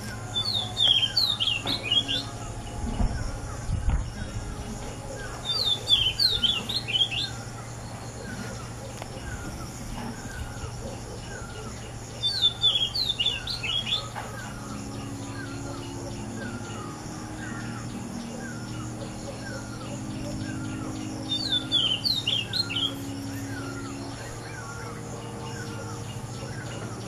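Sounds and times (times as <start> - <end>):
bird singing whistled notes: 0.0 - 27.0
low steady hum: 0.0 - 27.0.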